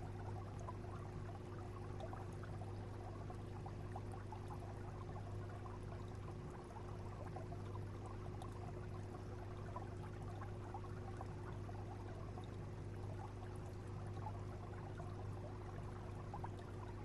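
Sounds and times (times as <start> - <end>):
aquarium pump hum: 0.0 - 17.0
water trickling and bubbling: 0.0 - 17.0.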